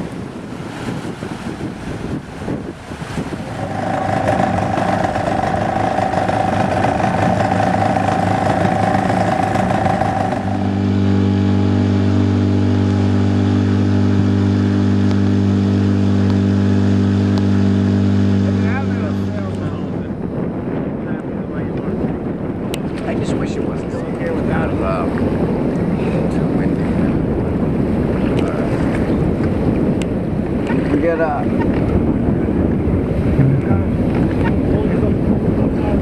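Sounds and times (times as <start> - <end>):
motorboat engine running: 0.0 - 36.0
water noise: 0.0 - 36.0
wind noise: 0.0 - 36.0.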